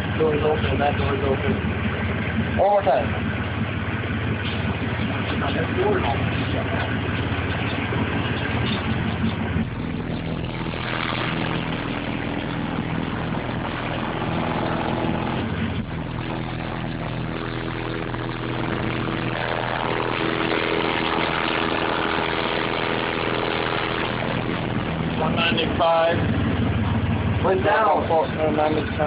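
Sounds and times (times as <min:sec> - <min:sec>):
car engine idling: 0:00.0 - 0:29.0
subwoofer low bass tone: 0:00.0 - 0:29.0.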